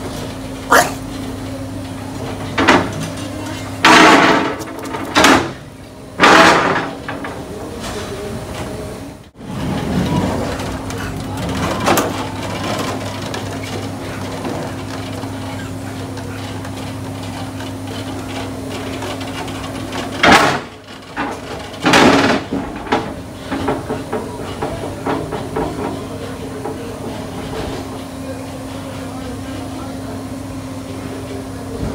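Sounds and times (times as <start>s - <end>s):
factory machinery hum: 0.0s - 31.9s.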